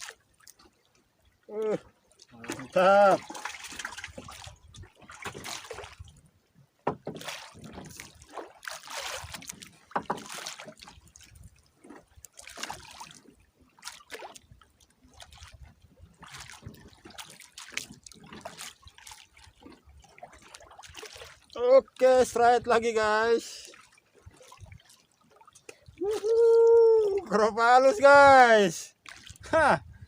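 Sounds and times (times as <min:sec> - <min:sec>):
water splashing and lapping: 0:00.0 - 0:30.0.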